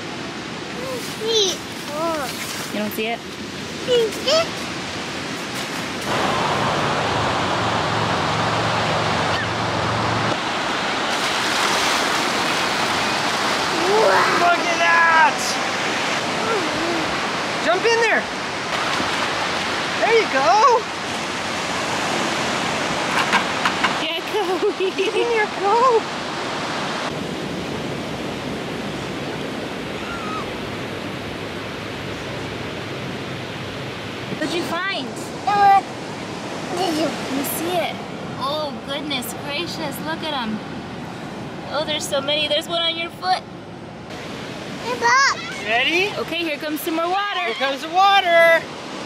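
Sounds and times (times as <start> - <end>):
ocean surf washing onto beach: 0.0 - 49.0.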